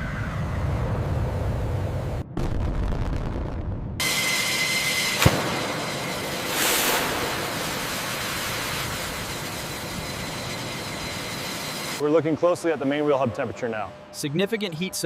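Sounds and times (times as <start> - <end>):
jet engine rushing with high whine: 0.0 - 2.2, 4.0 - 15.0.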